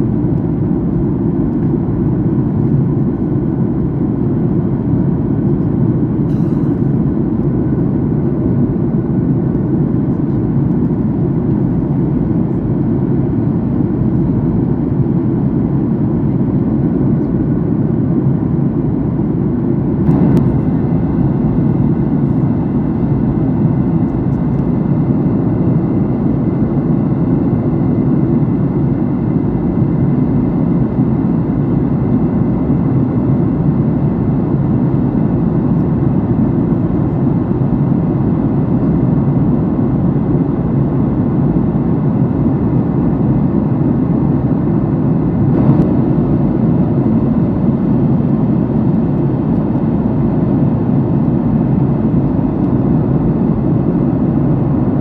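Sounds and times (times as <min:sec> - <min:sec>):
jet engines and airflow rush: 0:00.0 - 0:55.0.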